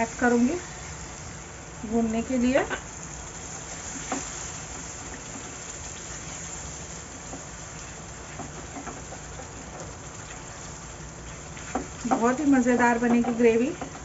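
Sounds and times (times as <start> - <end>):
masala sizzling in hot oil: 0.0 - 14.0.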